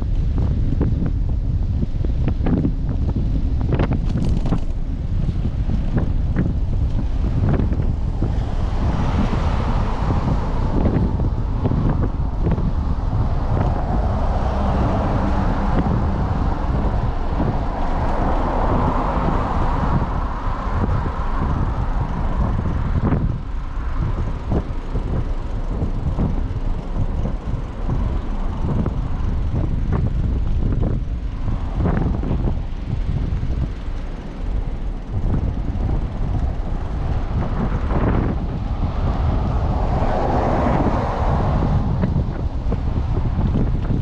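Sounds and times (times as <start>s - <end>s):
cars passing on highway: 0.0s - 44.0s
wind buffeting microphone: 0.0s - 44.0s.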